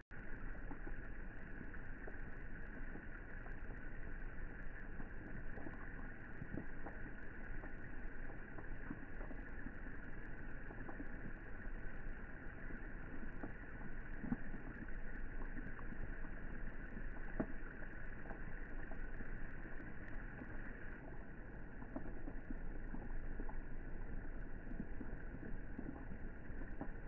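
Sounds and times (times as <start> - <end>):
rain falling on water: 0.1 - 27.0.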